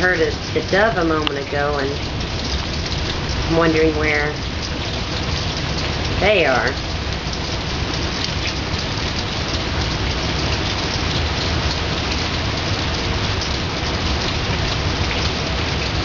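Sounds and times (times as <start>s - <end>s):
heavy rain pattering: 0.0s - 16.0s.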